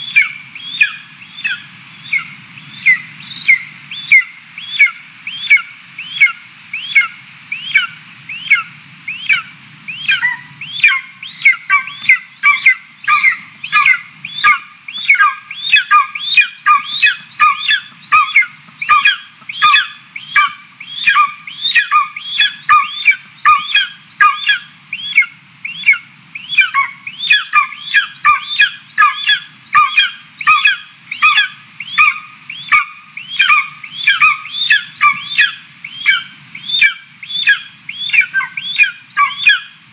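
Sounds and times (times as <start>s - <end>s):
eaglet chirping calls: 0.0s - 39.8s.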